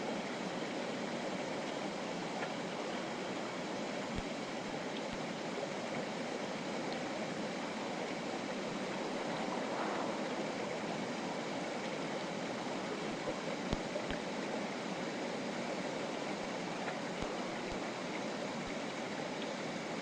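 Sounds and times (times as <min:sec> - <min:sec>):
river flowing over rocks: 0:00.0 - 0:20.0.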